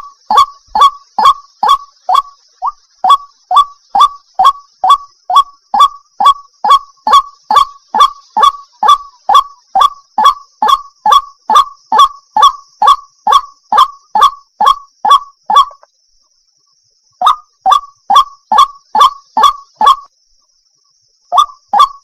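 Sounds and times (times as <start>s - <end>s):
waterhen honking calls: 0.0s - 15.8s, 17.2s - 20.0s
faint steady high hiss: 0.0s - 22.0s.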